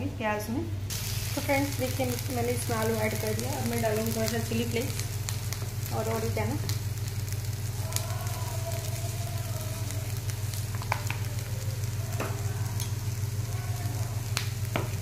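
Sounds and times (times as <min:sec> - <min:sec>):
steady low hum: 0:00.0 - 0:15.0
stuffing sizzling in oil: 0:00.9 - 0:15.0.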